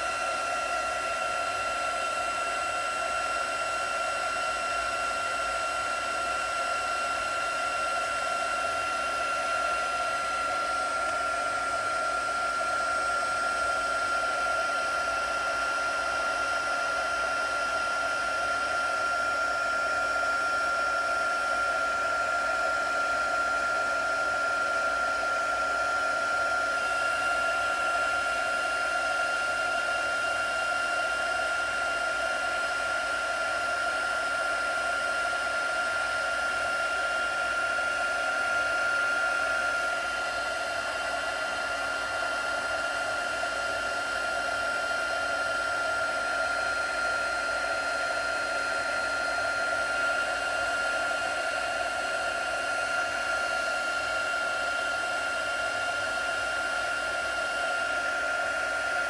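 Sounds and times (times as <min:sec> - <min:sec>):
fan blowing with whine: 0:00.0 - 0:59.0.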